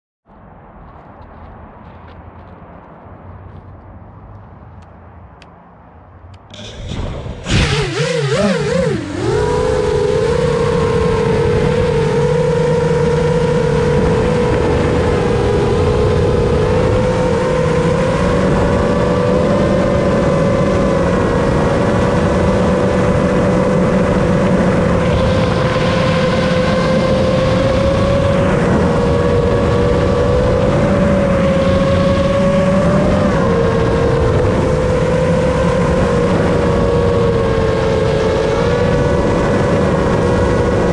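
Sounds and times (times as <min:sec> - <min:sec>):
drone propellers whining: 0:04.8 - 0:40.9.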